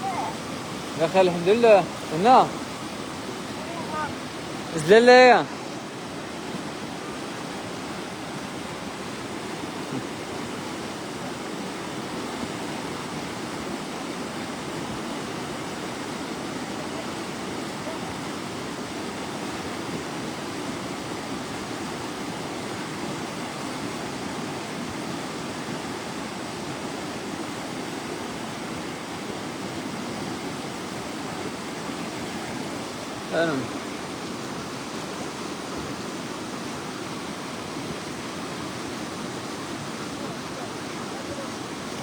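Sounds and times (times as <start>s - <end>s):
floodwater rushing in river: 0.0s - 42.0s.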